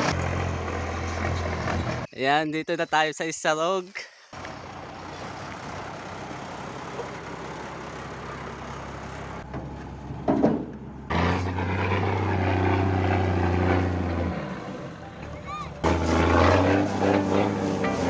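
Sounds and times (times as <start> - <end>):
truck engine droning: 0.0 - 2.1, 4.4 - 18.0.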